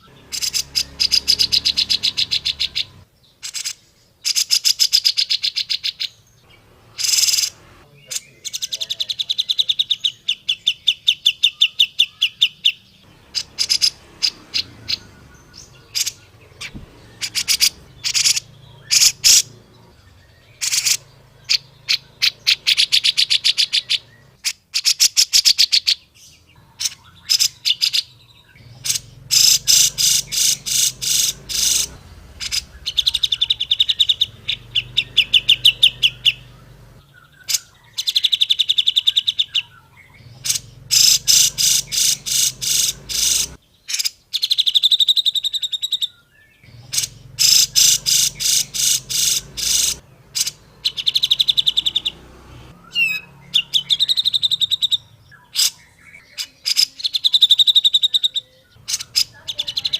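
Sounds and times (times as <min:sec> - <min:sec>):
bird chattering and trilling: 0:00.0 - 0:59.9.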